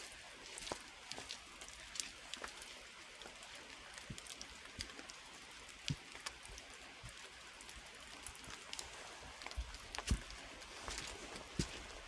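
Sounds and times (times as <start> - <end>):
light rain hiss: 0.0 - 12.0
raindrops ticking: 0.0 - 12.0.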